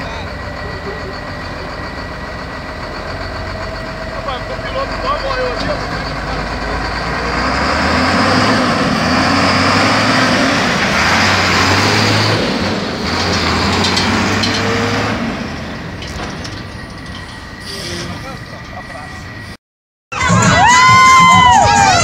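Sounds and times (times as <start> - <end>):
truck diesel engine passing: 0.0 - 19.6.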